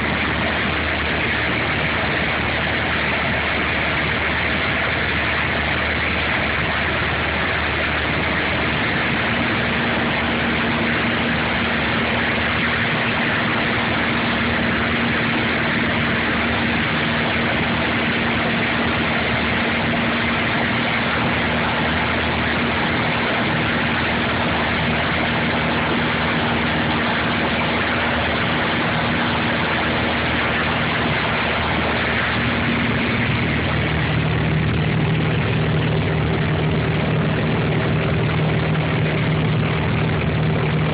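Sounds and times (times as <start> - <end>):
propeller aircraft engine drone: 0.0 - 40.9.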